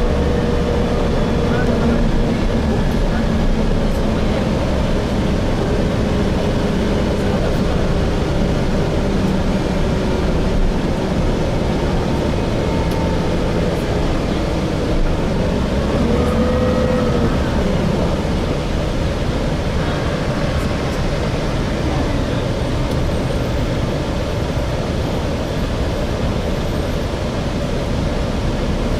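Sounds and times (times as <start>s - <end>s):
bus engine and road rumble: 0.0s - 28.9s
faint transmission whine: 0.0s - 28.9s.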